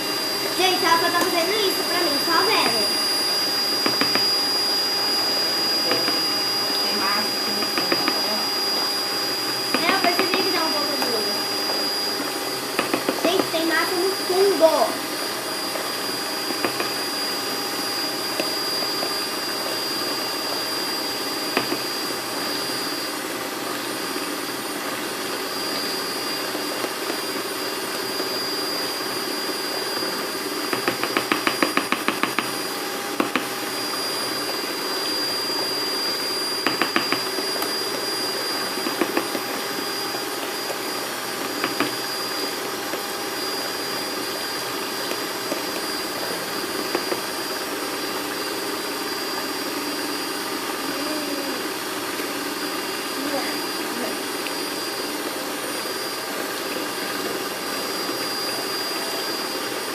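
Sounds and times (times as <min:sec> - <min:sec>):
electric mixer whining: 0:00.0 - 0:59.9.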